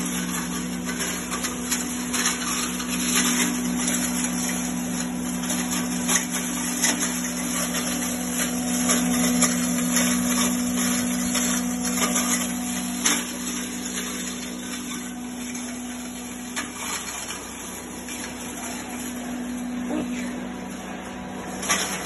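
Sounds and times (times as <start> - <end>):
grinder motor humming: 0.0 - 22.0.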